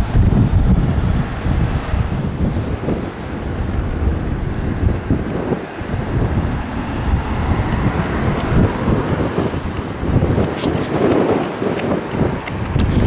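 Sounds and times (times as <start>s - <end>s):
wind rumble on microphone: 0.0s - 13.0s
cars driving slowly past: 2.5s - 13.0s.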